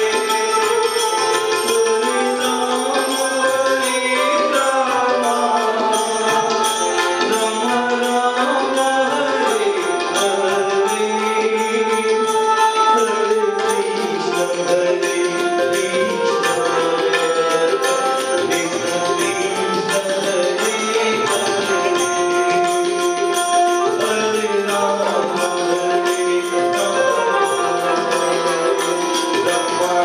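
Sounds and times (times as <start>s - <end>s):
hand cymbals: 0.0s - 30.0s
keyed melody instrument: 0.0s - 30.0s
tabla drumming: 0.0s - 30.0s.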